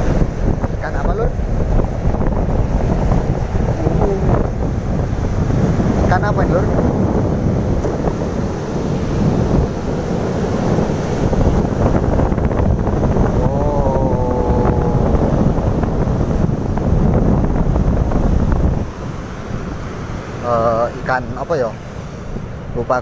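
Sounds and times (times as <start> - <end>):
surf: 0.0 - 23.0
wind buffeting microphone: 0.0 - 23.0.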